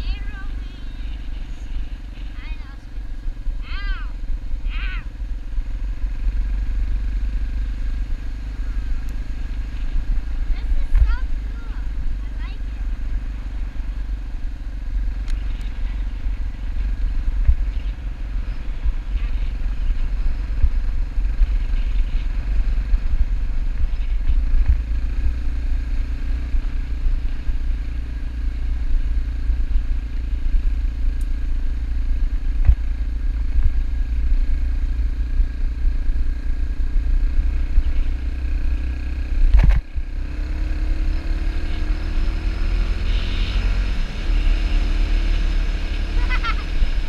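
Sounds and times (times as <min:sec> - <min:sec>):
dirt bike engine running: 0:00.0 - 0:47.0
road rumble: 0:00.0 - 0:47.0.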